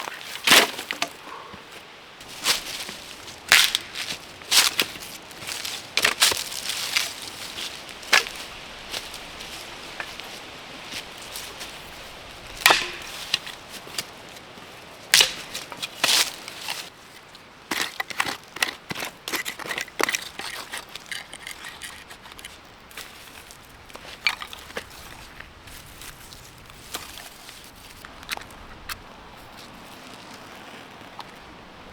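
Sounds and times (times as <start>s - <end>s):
dry branches snapping: 0.0s - 17.0s, 17.6s - 31.6s.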